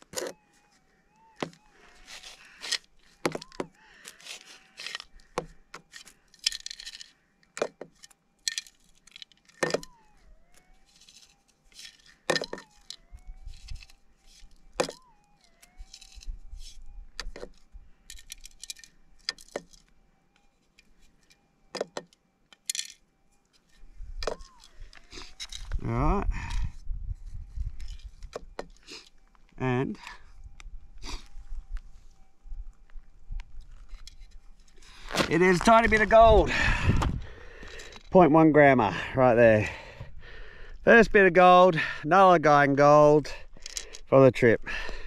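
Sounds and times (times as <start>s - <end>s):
metal detector hum: 0.0s - 38.6s.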